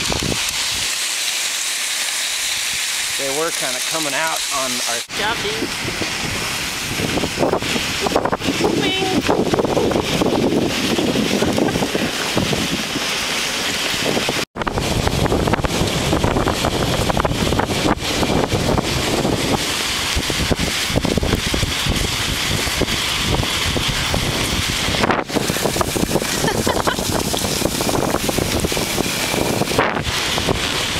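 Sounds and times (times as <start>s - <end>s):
wind buffeting microphone: 0.0s - 1.0s, 5.1s - 30.9s
sled runners hissing on snow: 0.0s - 30.9s.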